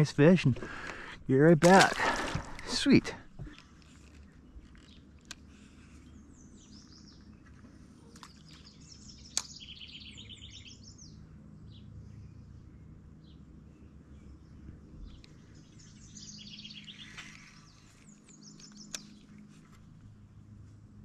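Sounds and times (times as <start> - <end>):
steady low hum: 0.0 - 21.0
birds singing and chirping: 2.0 - 19.4.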